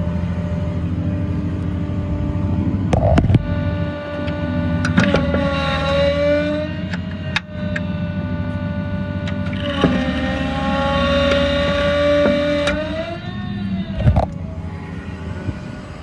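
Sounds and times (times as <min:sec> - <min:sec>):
diesel engine rumble: 0:00.0 - 0:16.0
hydraulic pump whining: 0:00.0 - 0:16.0.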